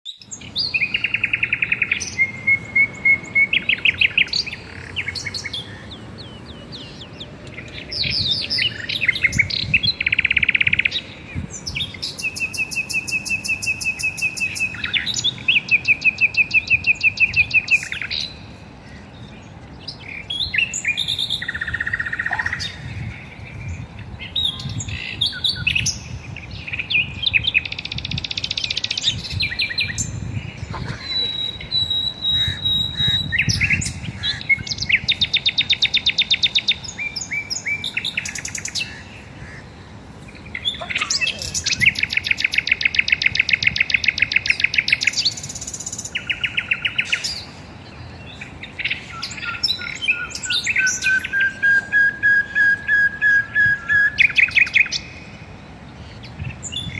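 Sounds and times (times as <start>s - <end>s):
birds singing and chirping: 0.1s - 56.9s.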